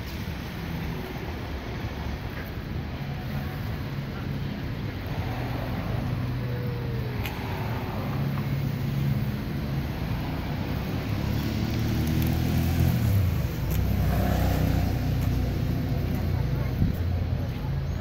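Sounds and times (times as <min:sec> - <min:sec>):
car engines passing: 0:00.0 - 0:18.0.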